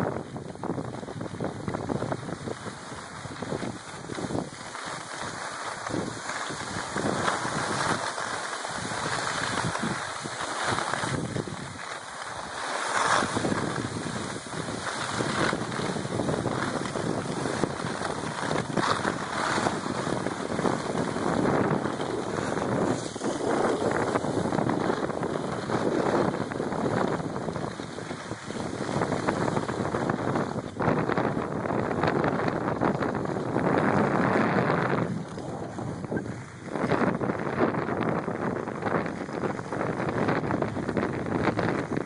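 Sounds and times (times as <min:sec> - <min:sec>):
skis scraping on snow: 0:00.0 - 0:42.0
wind rushing over microphone: 0:00.0 - 0:42.0.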